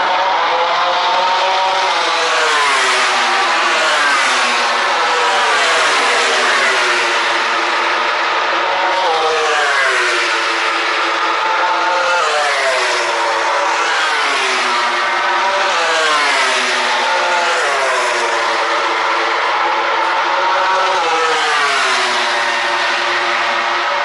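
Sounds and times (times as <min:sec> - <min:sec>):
racing motorcycle engines at high revs: 0:01.0 - 0:24.0.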